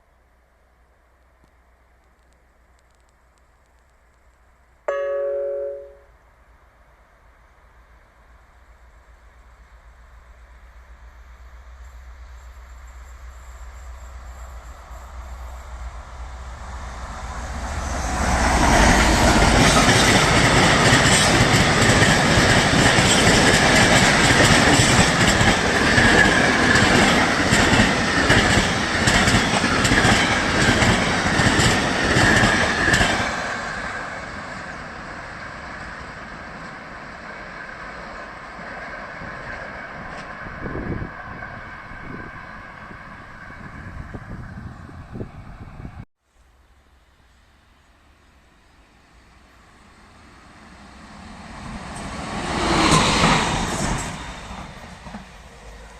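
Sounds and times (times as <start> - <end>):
train rumbling past: 7.2 - 46.1, 47.3 - 55.9.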